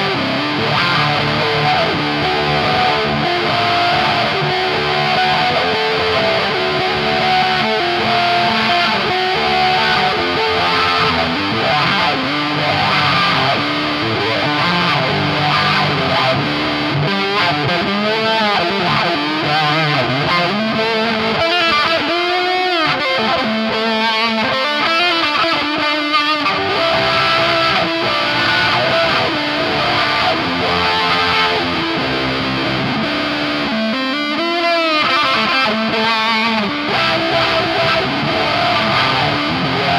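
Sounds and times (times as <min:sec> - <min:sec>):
distorted electric guitar with wah: 0:00.0 - 0:39.9.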